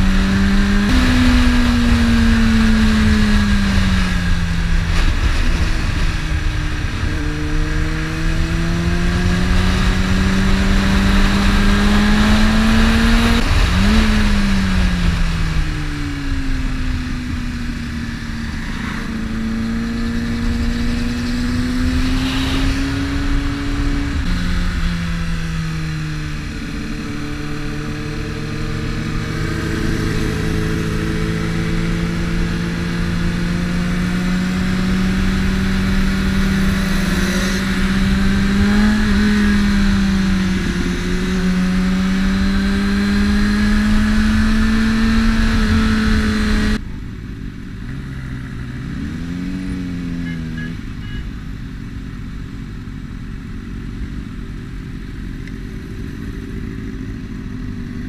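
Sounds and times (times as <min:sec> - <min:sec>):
rushing wind noise: 0:00.0 - 0:46.8
motorcycle engine running: 0:00.0 - 0:58.0.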